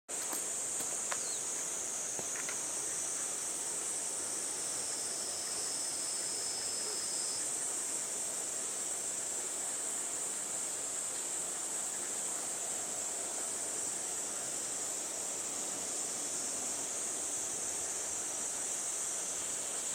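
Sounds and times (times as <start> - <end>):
high-pitched insect chorus: 0.1 - 19.9
lower insect tone: 0.1 - 19.9.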